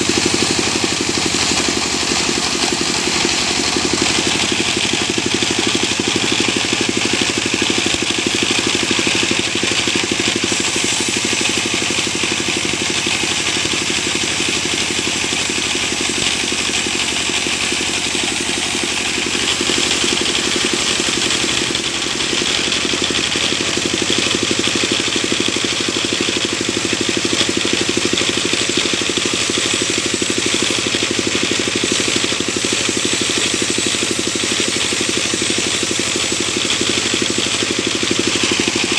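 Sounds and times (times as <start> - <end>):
sawmill machinery engine running: 0.0 - 38.9.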